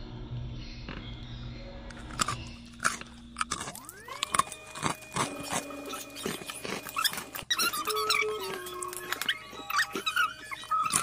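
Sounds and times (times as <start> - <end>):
held background music tone: 0.0 - 11.0
chewing: 1.9 - 11.0.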